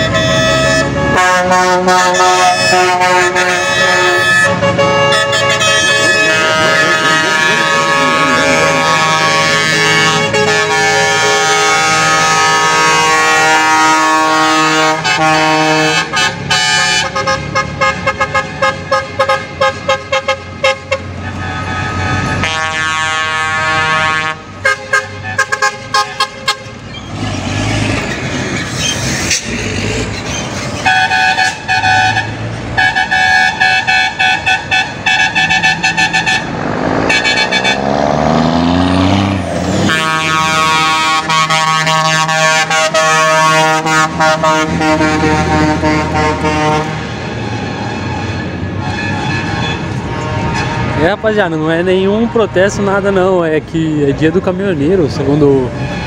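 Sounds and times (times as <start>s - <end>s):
truck air horns: 0.0s - 26.9s, 30.8s - 38.0s, 39.0s - 53.0s, 55.4s - 56.0s
diesel truck engines: 0.0s - 56.0s.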